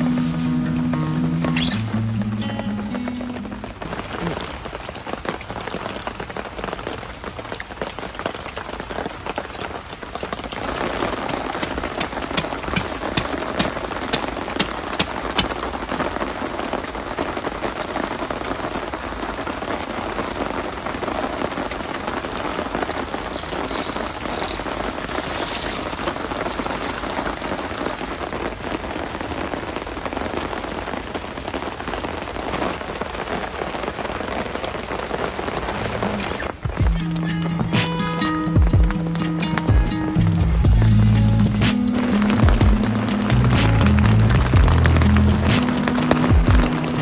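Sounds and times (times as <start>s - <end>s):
heavy rain pouring: 0.0s - 47.0s.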